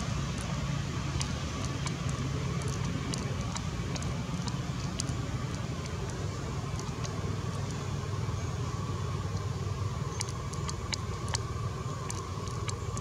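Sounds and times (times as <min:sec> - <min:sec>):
faint steady hum: 0:00.0 - 0:13.0
low background rumble: 0:00.0 - 0:13.0.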